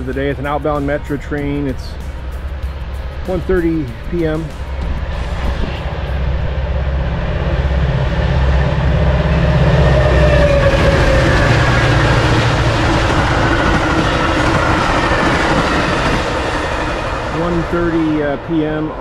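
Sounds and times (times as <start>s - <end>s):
locomotive engine drone: 0.0s - 19.0s
wheel-on-rail noise: 1.8s - 19.0s.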